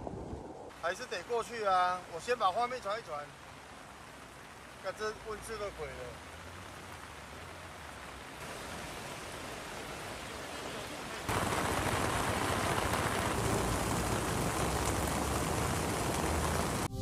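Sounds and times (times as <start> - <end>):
heavy rain: 0.7 - 17.0
running floodwater: 0.7 - 17.0.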